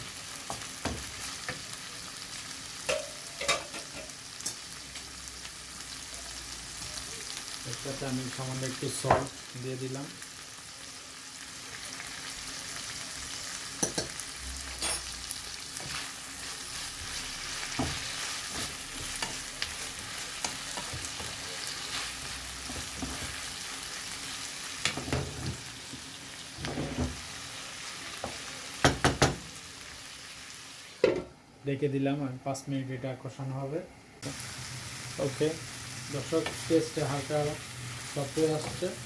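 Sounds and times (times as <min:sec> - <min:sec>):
vegetables sizzling in a frying pan: 0:00.0 - 0:32.3, 0:32.9 - 0:39.0.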